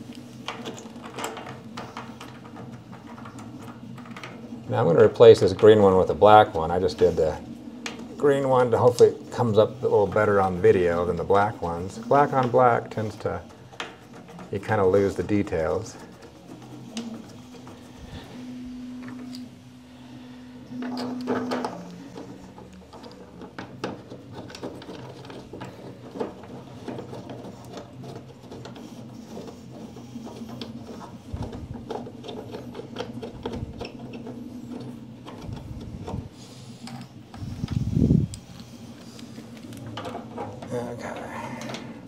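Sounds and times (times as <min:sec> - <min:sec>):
plastic scrape: 0:00.1 - 0:42.0.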